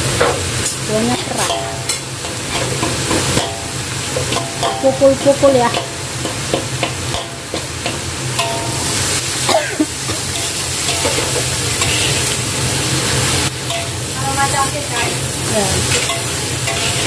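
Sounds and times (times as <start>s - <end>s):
frying sizzle: 0.0s - 17.0s
metal spatula scraping wok: 0.6s - 17.0s.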